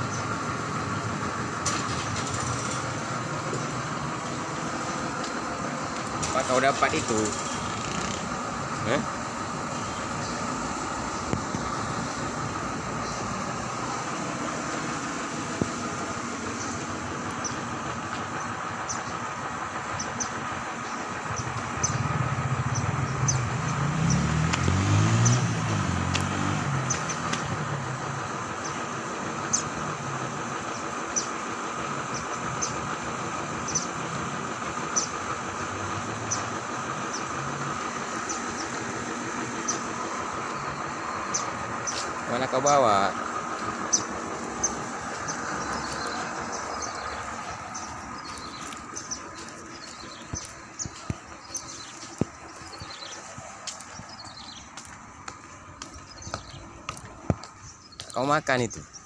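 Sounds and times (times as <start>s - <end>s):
motor vehicle passing: 0.0s - 59.0s.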